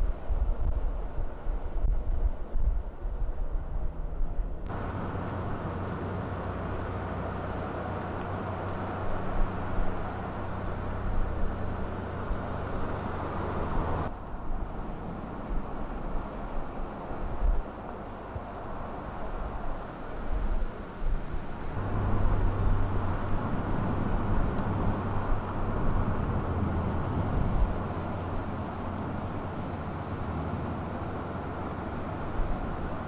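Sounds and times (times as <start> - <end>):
tyre and road noise: 0.0 - 33.0
pickup engine hum: 3.4 - 33.0.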